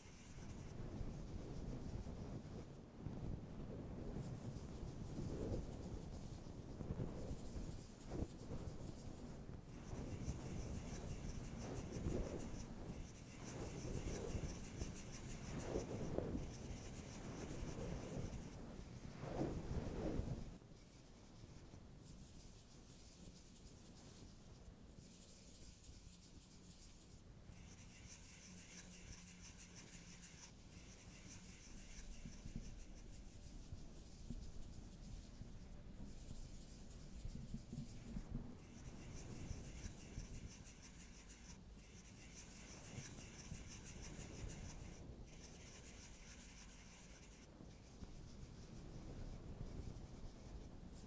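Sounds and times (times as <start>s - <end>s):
fingertip scratching on eyeshadow: 0.0s - 2.6s, 4.1s - 19.1s, 20.5s - 51.0s.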